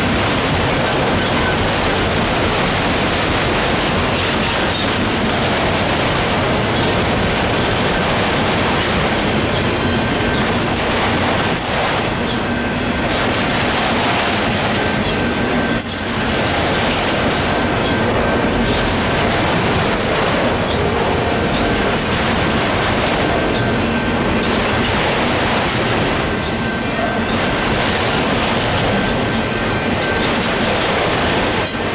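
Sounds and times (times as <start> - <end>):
train wheels rumbling on rails: 0.0 - 31.9
wheels clickety-clack: 0.0 - 31.9.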